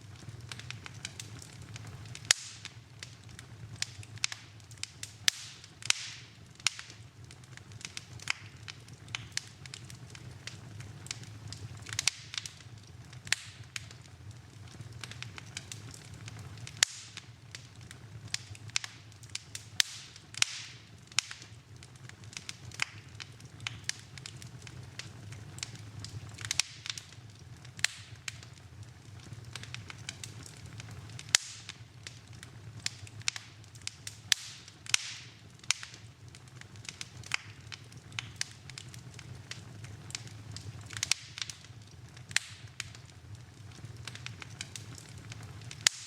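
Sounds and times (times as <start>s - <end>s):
low steady rumble: 0.0s - 46.0s
wood fire crackling and popping: 0.0s - 46.0s.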